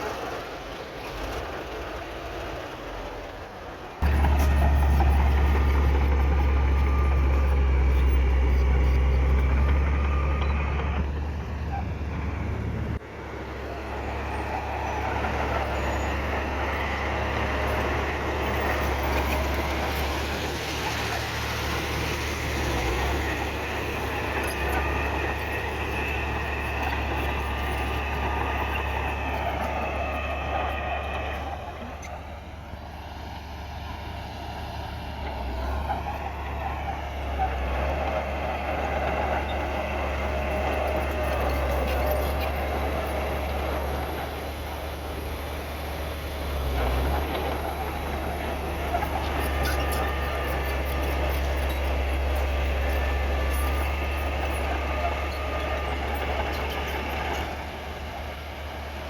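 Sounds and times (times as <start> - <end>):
heavy diesel engine rumbling: 0.0 - 59.0.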